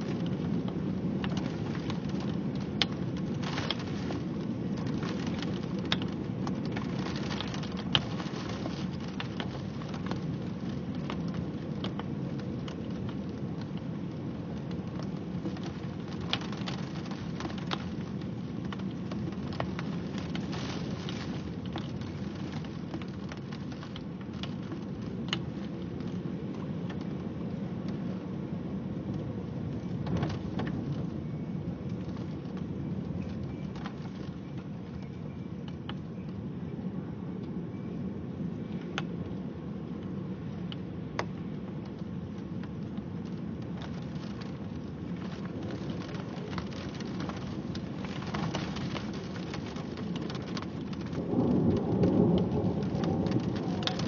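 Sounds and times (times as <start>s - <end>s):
thunder rumble: 0.0s - 35.7s, 41.2s - 54.0s
close raindrops hitting: 0.0s - 54.0s
steady rain: 0.0s - 54.0s.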